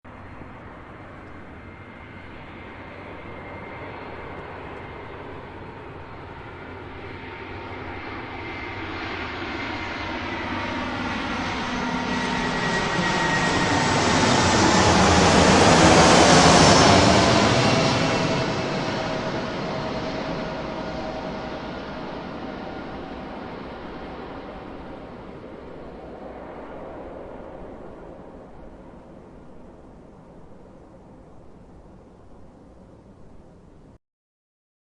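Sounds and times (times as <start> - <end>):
jet aircraft flying past: 0.1 - 33.6.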